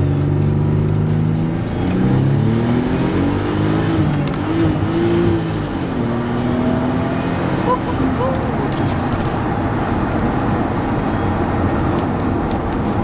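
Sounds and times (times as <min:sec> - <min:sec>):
car engine accelerating from cabin: 0:00.0 - 0:12.6.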